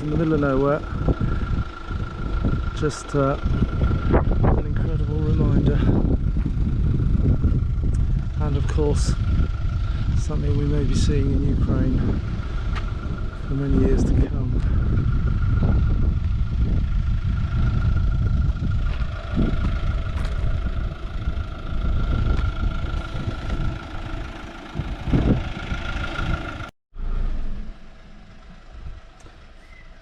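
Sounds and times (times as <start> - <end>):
engine and road noise rumble: 0.0 - 30.0.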